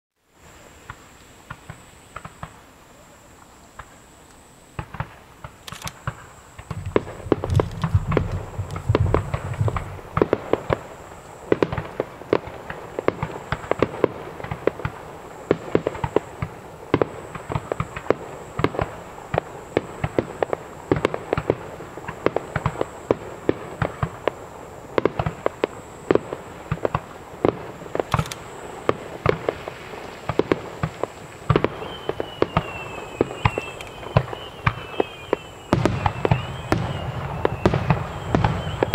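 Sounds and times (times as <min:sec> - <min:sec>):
rapid firework bangs: 0:00.8 - 0:02.6, 0:04.8 - 0:38.9.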